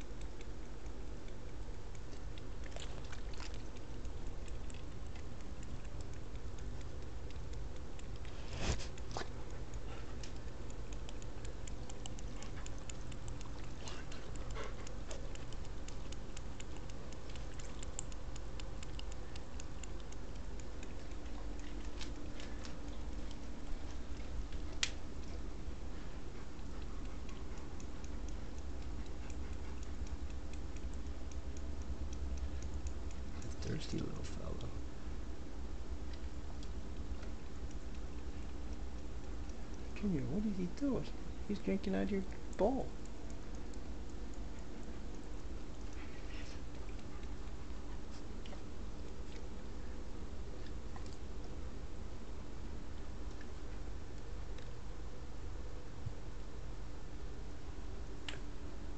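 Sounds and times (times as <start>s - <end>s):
kitten lapping water: 0.0s - 55.0s
low hum: 0.0s - 58.9s.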